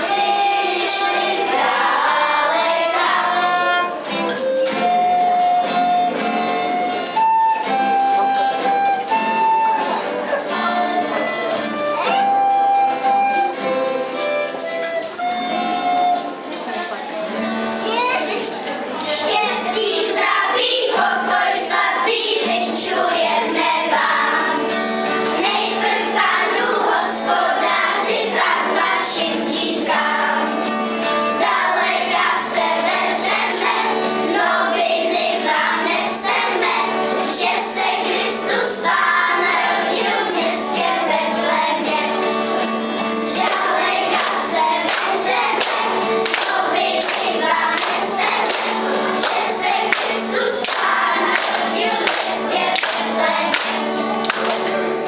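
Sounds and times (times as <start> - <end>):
children singing a carol in chorus: 0.0 - 17.8, 19.0 - 55.0.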